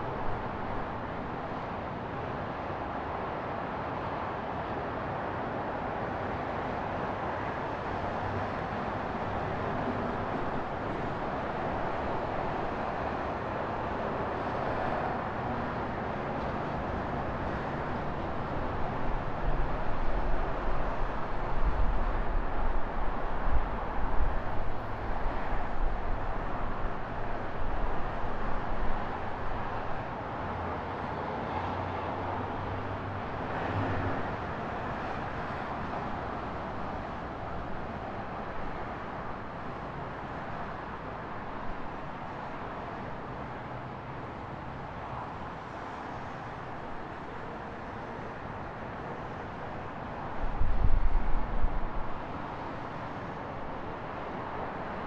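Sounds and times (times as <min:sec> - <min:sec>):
street traffic and road noise: 0:00.0 - 0:55.0.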